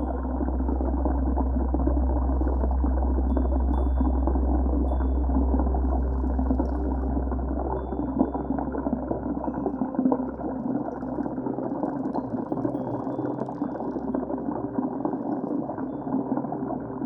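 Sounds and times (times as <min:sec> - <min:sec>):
muffled rushing bubbling water: 0:00.0 - 0:17.0.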